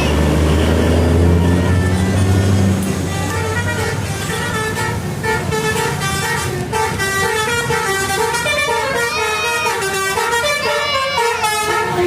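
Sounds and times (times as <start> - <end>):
bus musical horn playing a tune: 0.0 - 12.0
low bus engine noise: 0.0 - 12.0.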